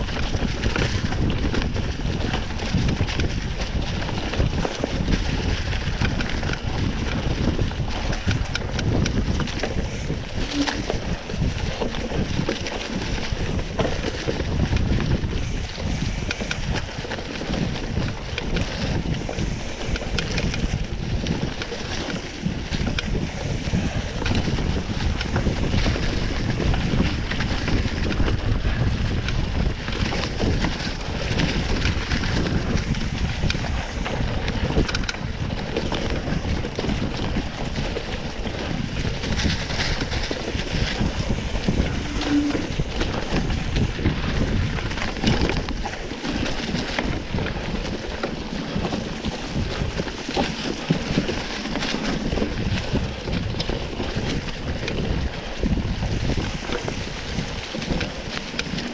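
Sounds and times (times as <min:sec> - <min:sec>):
bike rumble and rattles: 0:00.0 - 0:58.9
wind buffeting microphone: 0:00.0 - 0:58.9.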